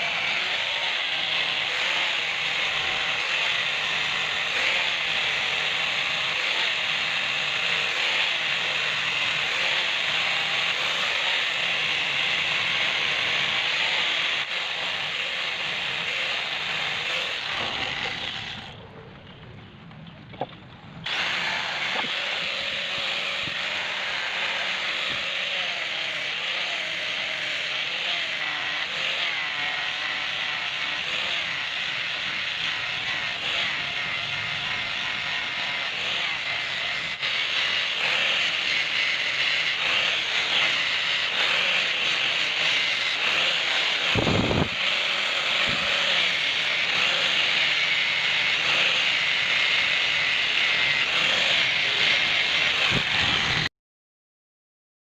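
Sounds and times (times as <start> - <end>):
power polisher whirring on metal: 0.0 - 18.8, 21.0 - 53.7.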